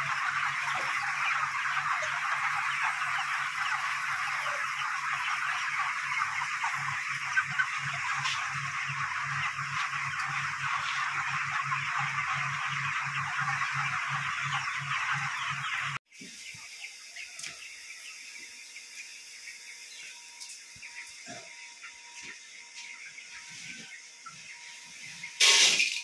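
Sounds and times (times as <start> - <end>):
chickens cheeping: 0.0 - 26.0.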